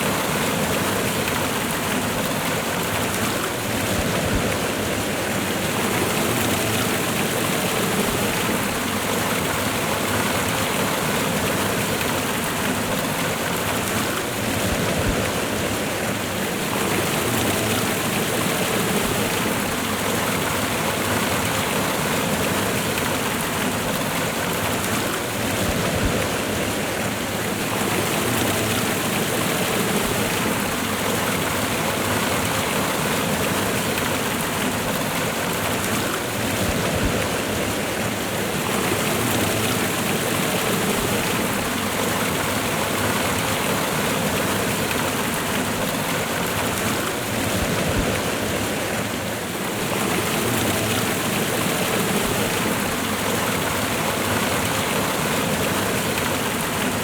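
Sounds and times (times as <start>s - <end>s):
waterfall and river water rushing: 0.0s - 57.0s.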